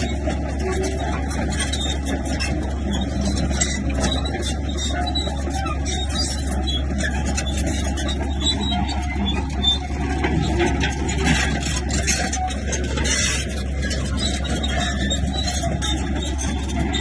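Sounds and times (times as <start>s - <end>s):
bulldozer diesel engine drone: 0.0s - 17.0s
machine rattling and scraping: 0.0s - 17.0s.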